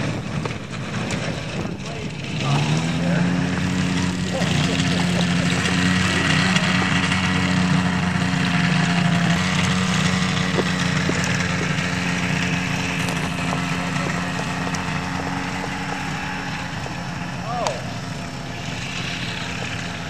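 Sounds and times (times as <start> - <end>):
small airplane engine drone: 0.0 - 20.0.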